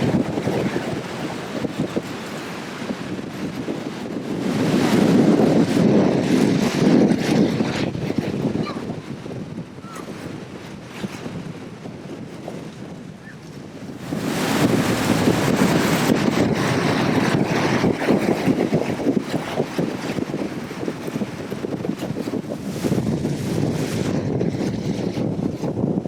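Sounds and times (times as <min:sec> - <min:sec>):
heavy surf rushing: 0:00.0 - 0:26.0
wind buffeting microphone: 0:00.0 - 0:26.0.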